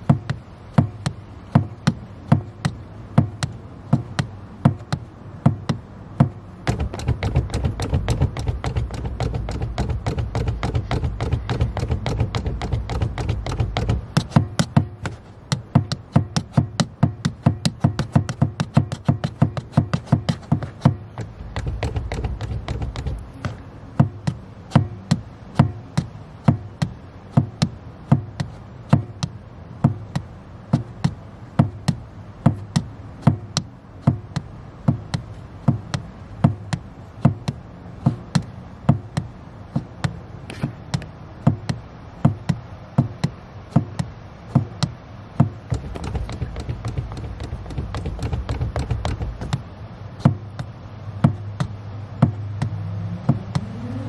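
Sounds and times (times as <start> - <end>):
foot tapping accelerator pedal: 0.0 - 54.0
low steady hum: 0.0 - 54.0.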